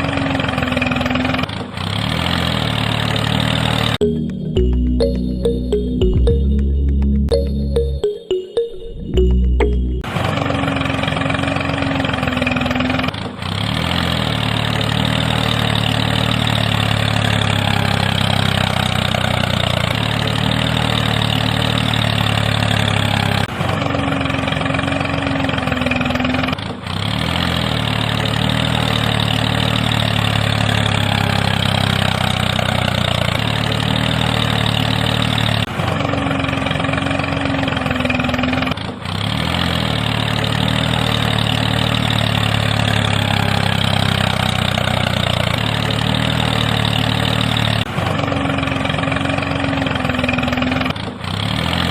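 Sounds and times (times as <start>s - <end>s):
tractor engine idling: 9.1s - 51.8s.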